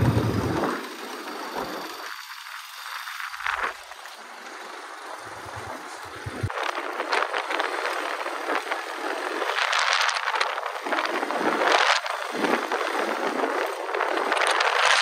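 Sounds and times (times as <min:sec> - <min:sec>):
gravel crunching and scraping: 0:00.0 - 0:15.0
rushing wind: 0:00.0 - 0:15.0.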